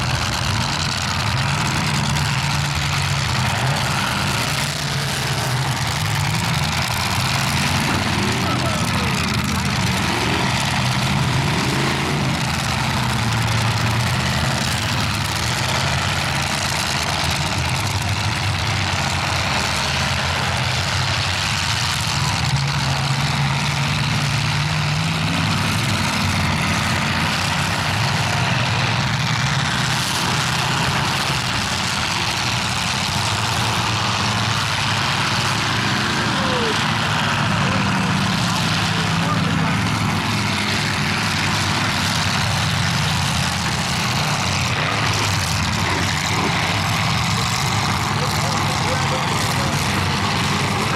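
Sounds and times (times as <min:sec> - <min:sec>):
car engine revving: 0:00.0 - 0:50.9
car engines running: 0:00.0 - 0:50.9.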